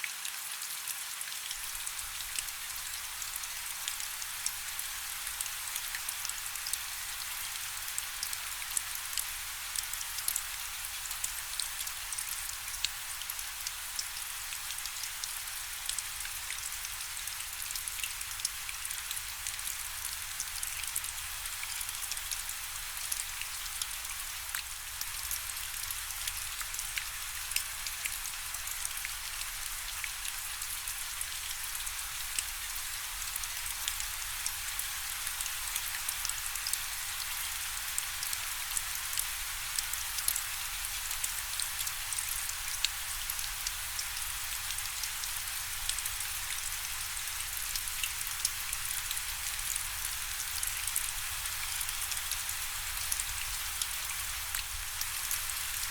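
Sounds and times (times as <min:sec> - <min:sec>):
steady rainfall: 0:00.0 - 0:55.9.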